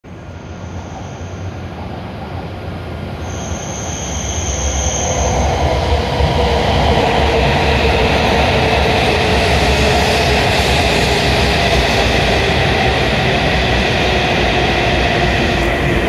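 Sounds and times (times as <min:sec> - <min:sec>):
low train hum: 0:00.0 - 0:16.0
train running noise: 0:00.1 - 0:16.0.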